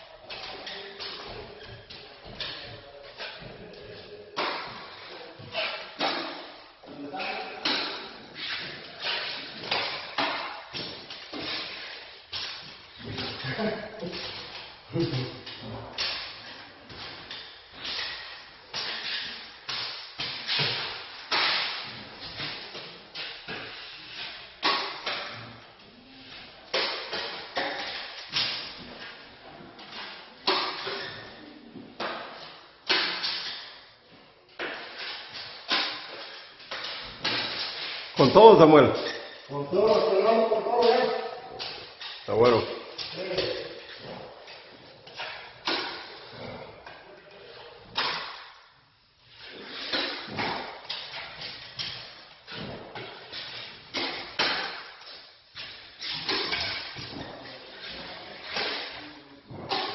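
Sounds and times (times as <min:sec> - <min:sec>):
sharp knocks echoing in room: 0:00.0 - 0:47.1, 0:47.8 - 0:48.8, 0:49.4 - 0:59.9.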